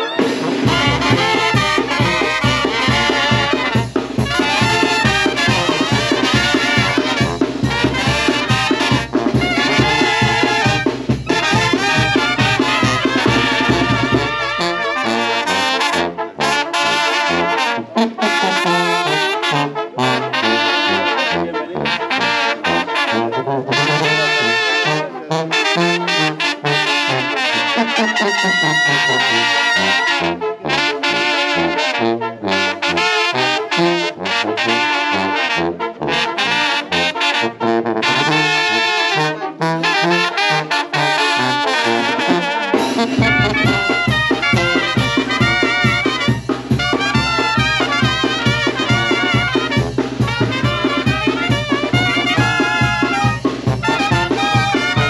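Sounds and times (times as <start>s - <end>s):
deeper brass instruments: 0.0s - 55.0s
percussion: 0.0s - 55.0s
trumpets and trombones playing: 0.0s - 55.0s.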